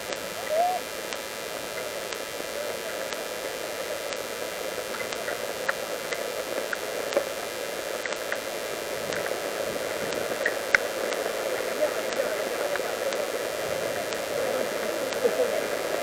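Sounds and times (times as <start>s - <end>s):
faint ticks: 0.0s - 16.0s
steady hiss: 0.0s - 16.0s.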